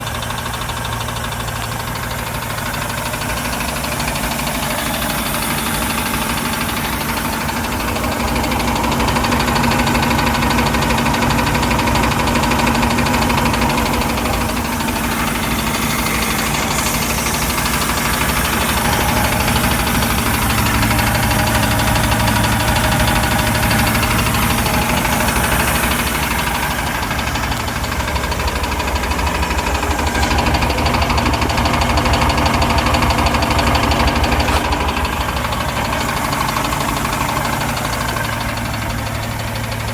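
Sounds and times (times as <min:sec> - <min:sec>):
boat engine running: 0:00.0 - 0:39.9
engine tapping and knocking: 0:00.0 - 0:39.9.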